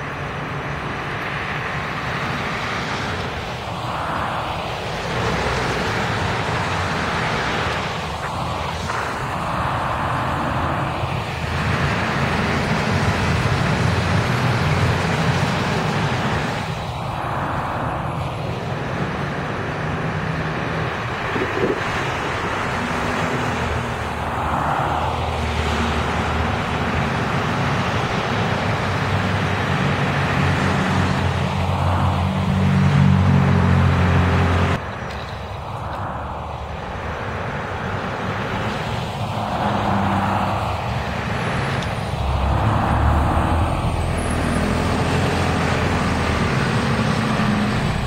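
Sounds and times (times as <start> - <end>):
bus engine drone: 0.0 - 48.0
cars passing with tyre whoosh: 0.0 - 48.0.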